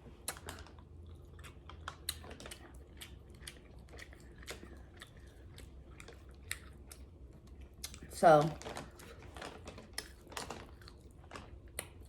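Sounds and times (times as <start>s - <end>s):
chewing crab with crackles: 0.0s - 12.0s.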